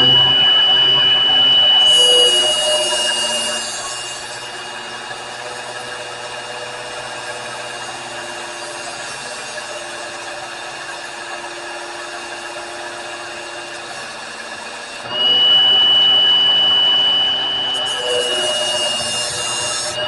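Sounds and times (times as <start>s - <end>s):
small electric motor whining: 0.0s - 20.0s.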